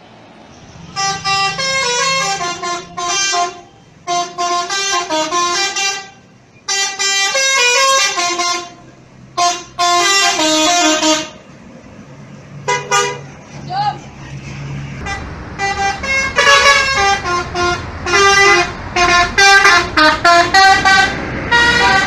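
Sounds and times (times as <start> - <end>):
multi-tone bus horn tooting melodies: 0.7 - 11.5, 12.6 - 13.3, 14.9 - 22.0.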